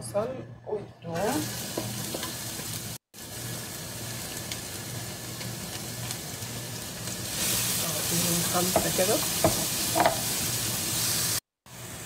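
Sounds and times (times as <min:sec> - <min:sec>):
onion sizzling in hot oil: 0:01.2 - 0:12.0.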